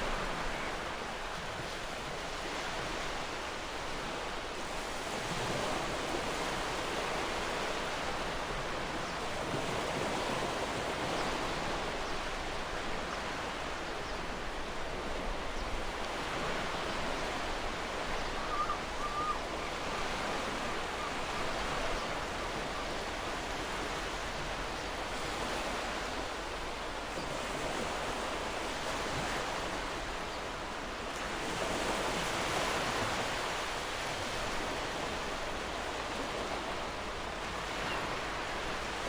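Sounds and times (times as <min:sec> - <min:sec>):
gentle ocean waves: 0:00.0 - 0:39.0.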